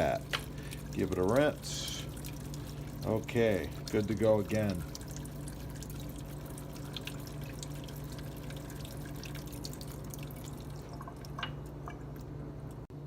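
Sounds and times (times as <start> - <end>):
water dripping and splashing: 0.0 - 12.9
steady low hum: 0.0 - 13.0.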